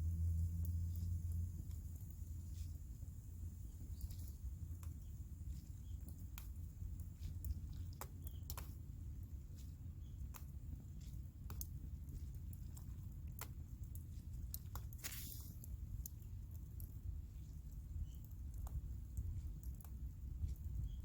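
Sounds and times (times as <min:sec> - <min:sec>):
campfire crackling and popping: 0:00.0 - 0:21.0
steady low rumble: 0:00.0 - 0:21.0.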